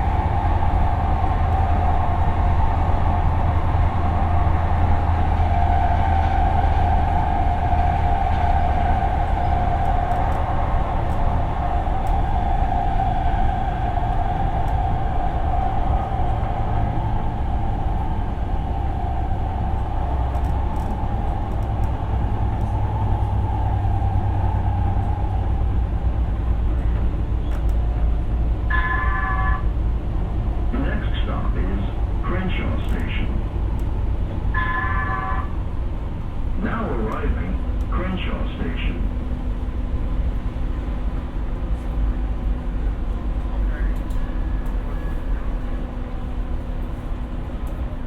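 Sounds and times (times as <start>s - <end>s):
light rail car whining at speed: 0.0s - 48.0s.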